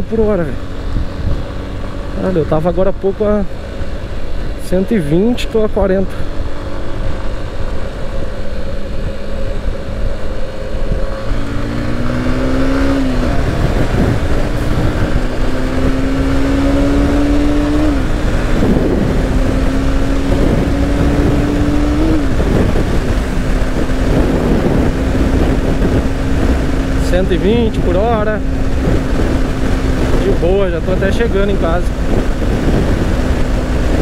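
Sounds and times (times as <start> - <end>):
wind noise on microphone: 0.0 - 2.4, 6.0 - 34.0
motorcycle engine accelerating through gears: 0.0 - 34.0.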